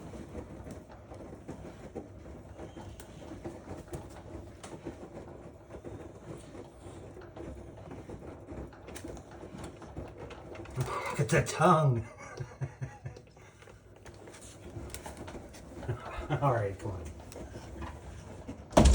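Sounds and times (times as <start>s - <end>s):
washing machine rumbling: 0.0s - 18.9s.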